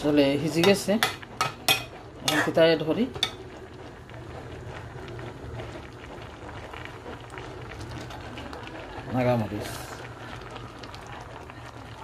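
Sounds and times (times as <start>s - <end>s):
curry bubbling in a pan: 0.0s - 12.0s.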